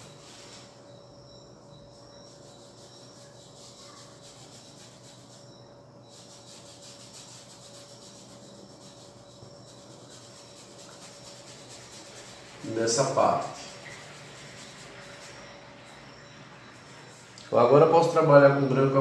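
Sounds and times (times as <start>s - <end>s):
paintbrush rubbing on canvas: 0.0s - 0.8s, 2.0s - 17.3s
thin steady hum: 0.0s - 19.0s.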